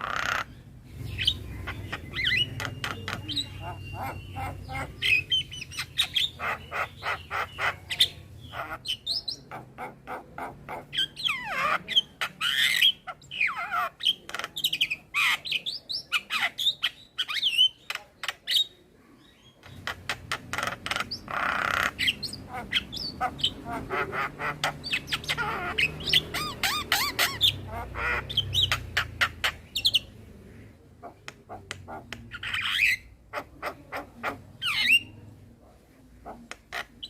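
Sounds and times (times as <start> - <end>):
myna bird singing: 0.0 - 37.0.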